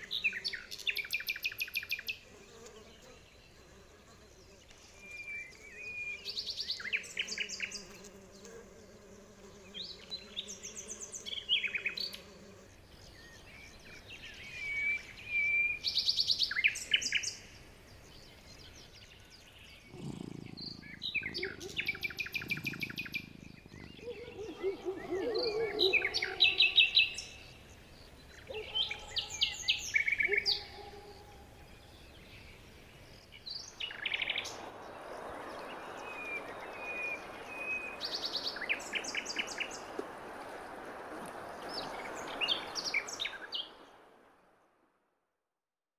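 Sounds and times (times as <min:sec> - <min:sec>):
songbirds chirping and singing: 0:00.0 - 0:40.0.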